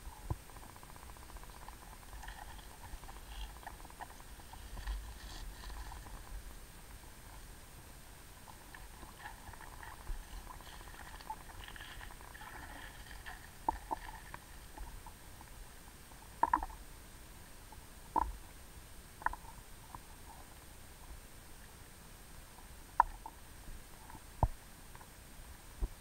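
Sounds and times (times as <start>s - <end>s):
faint underwater crackling: 0.0s - 26.0s.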